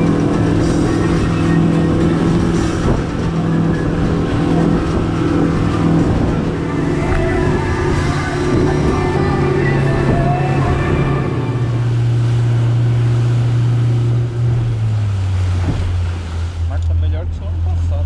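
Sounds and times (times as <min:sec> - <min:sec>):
outboard motor running: 0:00.0 - 0:18.0
water rushing against hull: 0:00.0 - 0:18.0.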